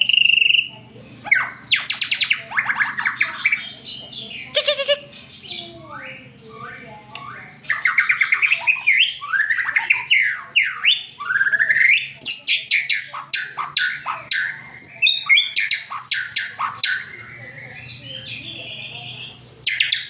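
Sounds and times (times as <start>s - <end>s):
songbird singing fast varied song: 1.4s - 20.0s.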